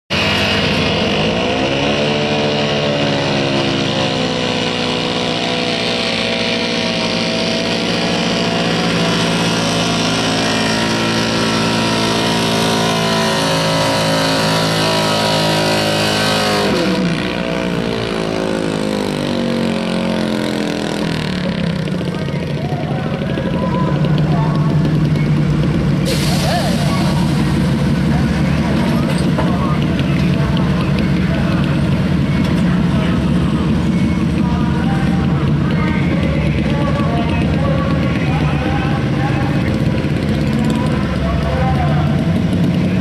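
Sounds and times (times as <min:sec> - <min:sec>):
pickup engine revving under load: 0:00.1 - 0:43.0.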